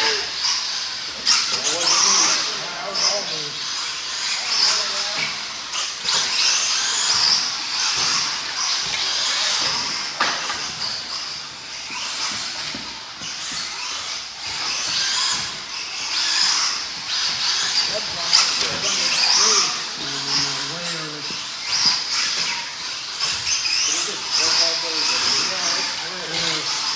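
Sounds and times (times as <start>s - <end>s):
electric motors whining: 0.0s - 26.9s.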